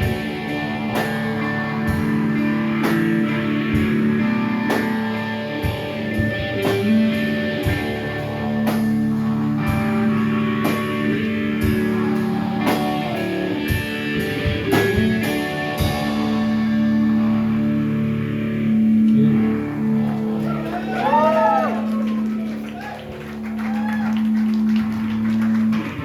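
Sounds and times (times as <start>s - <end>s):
electric guitars: 0.0s - 26.0s.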